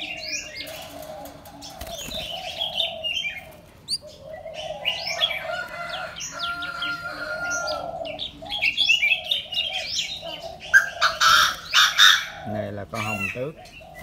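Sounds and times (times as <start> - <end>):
birds chirping and whistling: 0.0 - 14.0
low steady bird warbling: 0.0 - 14.0.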